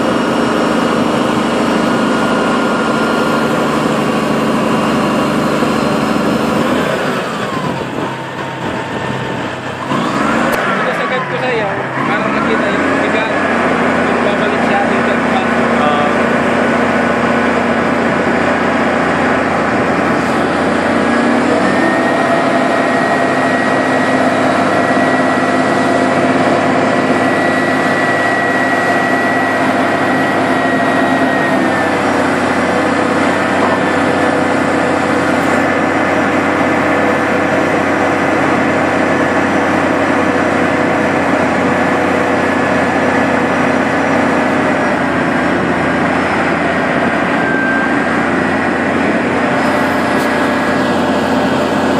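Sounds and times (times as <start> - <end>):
diesel engine running: 0.0 - 51.9
hydraulic whine: 0.0 - 51.9.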